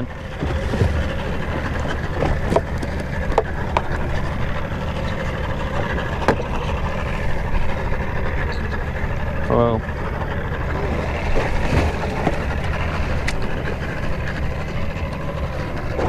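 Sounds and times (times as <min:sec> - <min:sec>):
wind and water rumble: 0:00.0 - 0:16.0.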